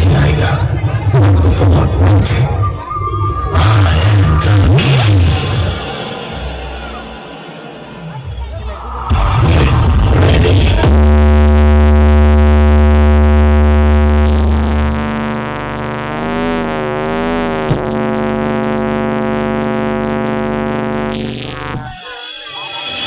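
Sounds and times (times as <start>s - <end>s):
synthesizer drone with sub-bass: 0.0s - 23.0s.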